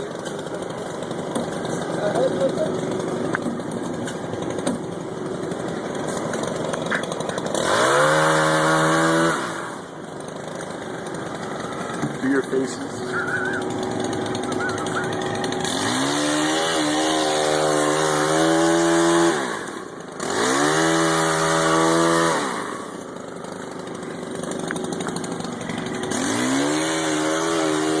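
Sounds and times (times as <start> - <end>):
chainsaw idling and revving: 0.0 - 28.0.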